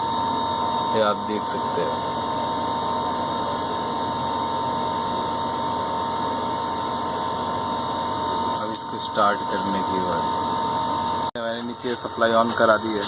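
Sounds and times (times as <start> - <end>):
high-pitched whine: 0.0 - 13.0
machinery noise: 0.8 - 13.0.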